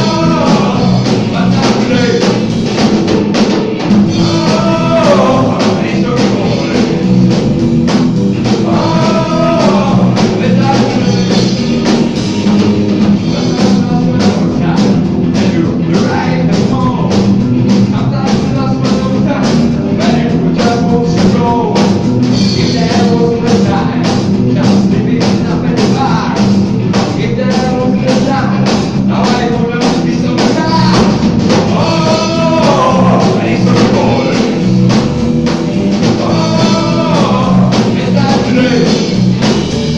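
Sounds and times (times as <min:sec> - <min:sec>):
man singing: 0:00.0 - 0:02.6, 0:03.6 - 0:07.4, 0:08.4 - 0:17.2, 0:17.8 - 0:35.0, 0:35.8 - 0:39.2
drum kit steady beat: 0:00.0 - 0:39.9
electric guitars: 0:00.0 - 0:39.9.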